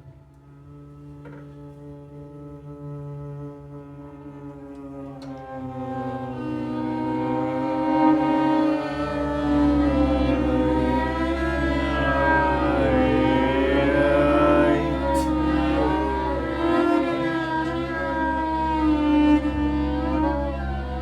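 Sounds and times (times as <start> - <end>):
bowed string tones sliding: 0.0 - 21.0
steady low drone: 0.0 - 21.0.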